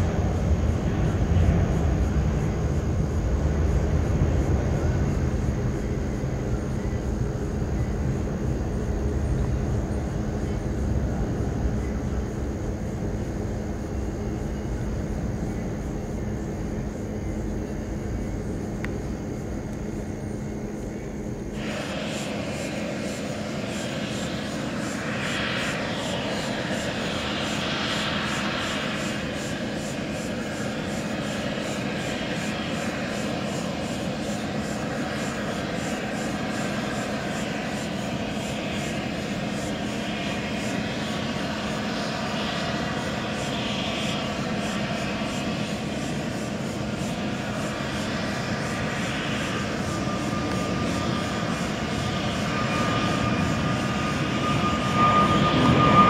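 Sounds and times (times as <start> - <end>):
distant jet rumble: 0.0 - 56.0
high fan whine: 0.0 - 56.0.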